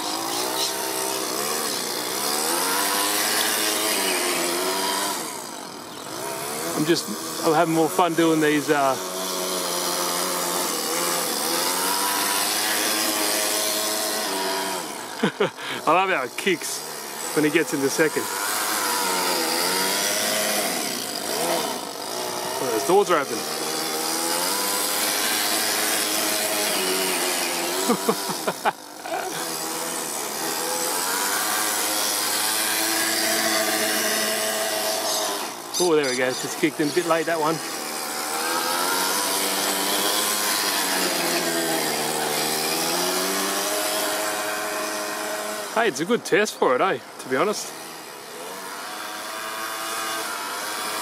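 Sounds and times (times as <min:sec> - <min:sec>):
model car engine revving: 0:00.0 - 0:51.0.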